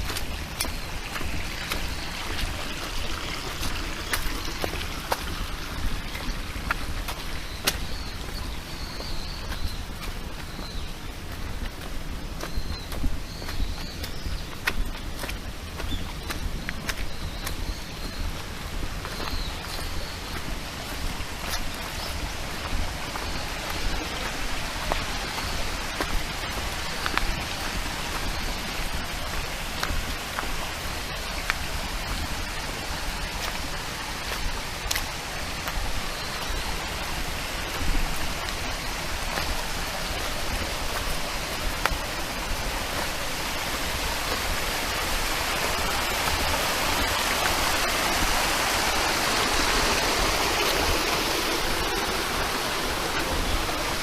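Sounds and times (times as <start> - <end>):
small stream running: 0.0 - 54.0.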